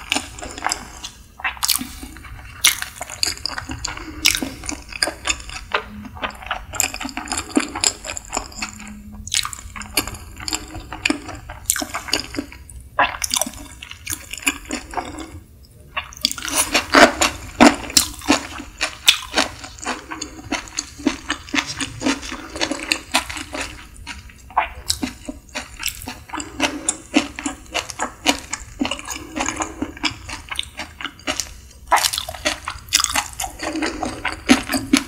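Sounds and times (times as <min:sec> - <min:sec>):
person chewing sushi: 0:00.0 - 0:35.0.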